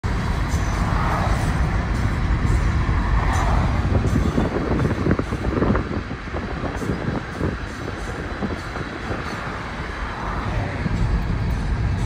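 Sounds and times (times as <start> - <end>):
car road noise: 0.0 - 12.0
freight train rumble: 0.0 - 12.0.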